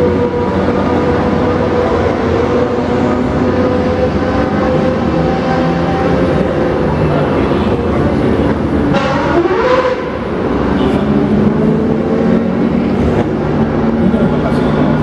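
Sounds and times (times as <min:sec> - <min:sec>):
engine revving: 0:00.0 - 0:15.0
racing engines droning: 0:00.0 - 0:15.0.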